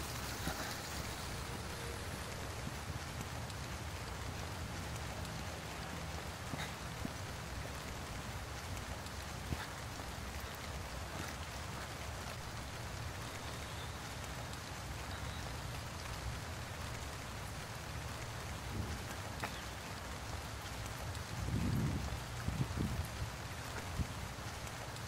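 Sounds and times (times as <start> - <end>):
rain on wet pavement: 0.0 - 25.0.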